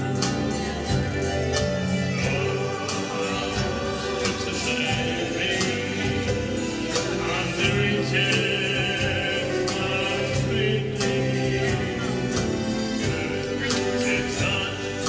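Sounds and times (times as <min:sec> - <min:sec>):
keyboard playing: 0:00.0 - 0:15.0.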